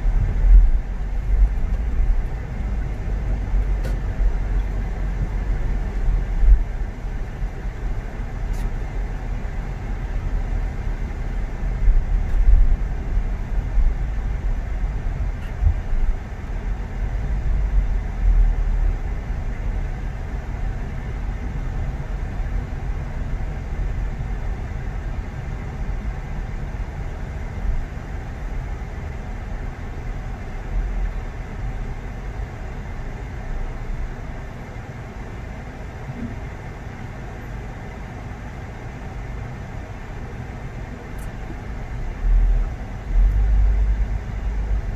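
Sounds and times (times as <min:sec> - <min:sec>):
car road and engine rumble: 0:00.0 - 0:44.9.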